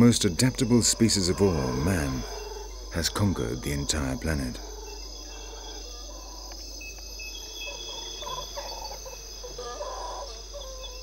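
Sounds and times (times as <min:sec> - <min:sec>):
howler monkey calling: 0:00.0 - 0:11.0
insect chorus: 0:00.0 - 0:11.0.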